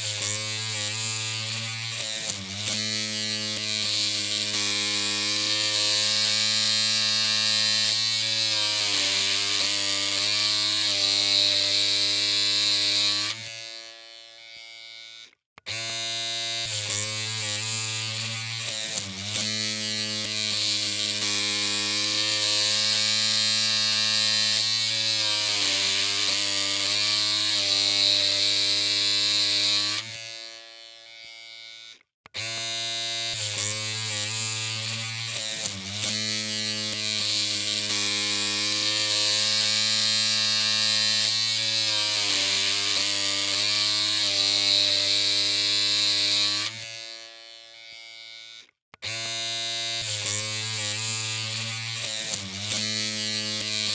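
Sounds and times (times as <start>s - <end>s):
electric hair clippers buzzing: 0.0s - 53.9s.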